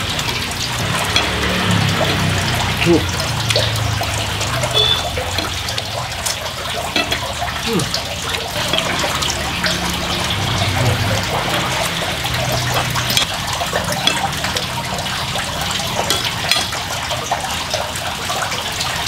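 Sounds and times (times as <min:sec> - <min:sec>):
running water splashing: 0:00.0 - 0:19.0.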